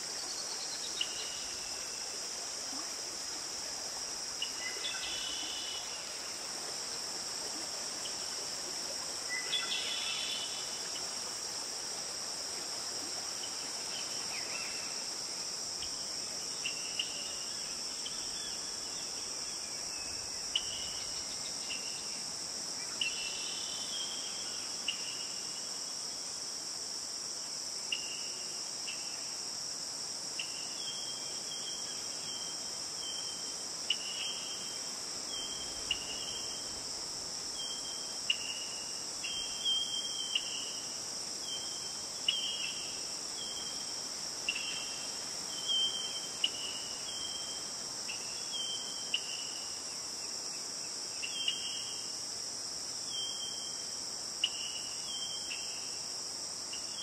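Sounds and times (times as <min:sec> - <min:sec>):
insect chorus drone: 0:00.0 - 0:57.0.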